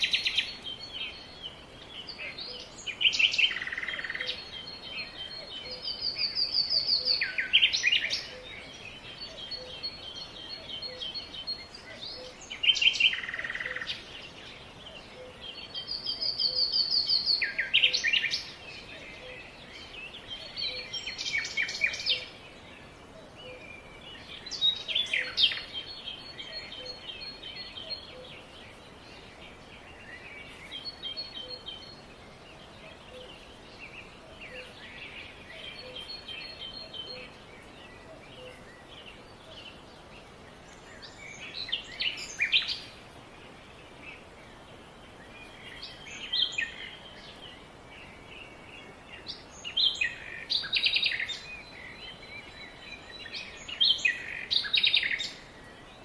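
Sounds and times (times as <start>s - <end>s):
steady background hiss: 0.0s - 56.0s
wild birds chirping and calling: 0.0s - 56.0s.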